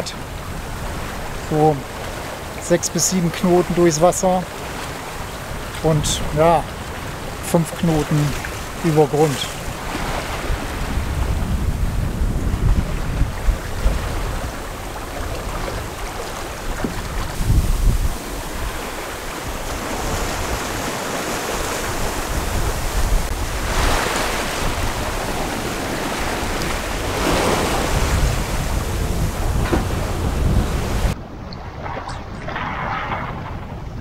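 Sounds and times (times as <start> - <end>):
water rushing along hull: 0.0 - 34.0
wind buffeting microphone: 0.0 - 34.0.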